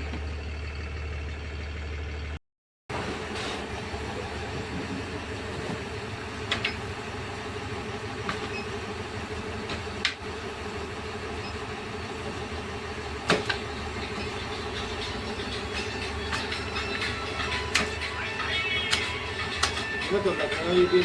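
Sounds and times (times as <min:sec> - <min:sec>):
heavy machinery droning: 0:00.0 - 0:21.0.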